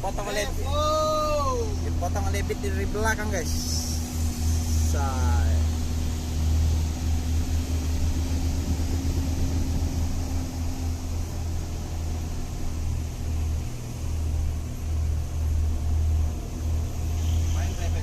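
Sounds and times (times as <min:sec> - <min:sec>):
higher hum: 0:00.0 - 0:18.0
truck engine droning: 0:00.0 - 0:18.0.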